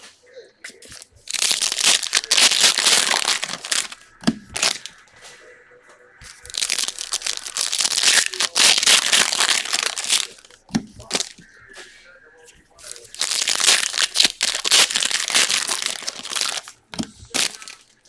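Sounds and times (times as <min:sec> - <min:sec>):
card pack wrappers crinkling: 0:00.9 - 0:05.1, 0:06.2 - 0:11.4, 0:12.8 - 0:18.0.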